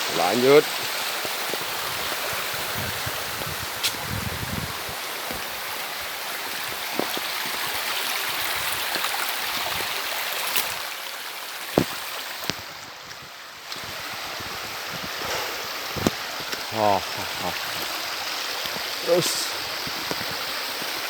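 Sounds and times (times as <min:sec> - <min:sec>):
water rushing over rocks: 0:00.0 - 0:21.0.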